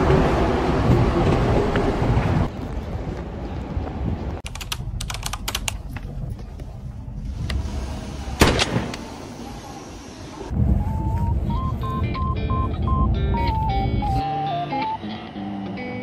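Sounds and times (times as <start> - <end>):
low travel rumble: 0.0 - 14.2.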